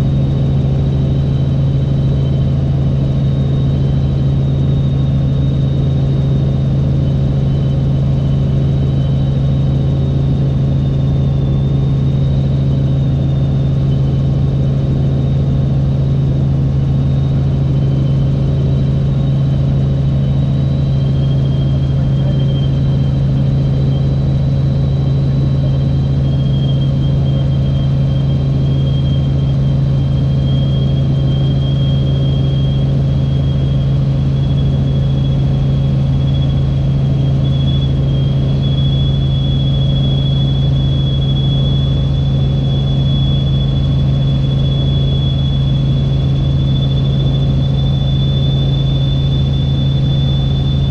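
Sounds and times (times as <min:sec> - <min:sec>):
faint high whine: 0:00.0 - 0:50.9
helicopter engine and rotors drone: 0:00.0 - 0:50.9.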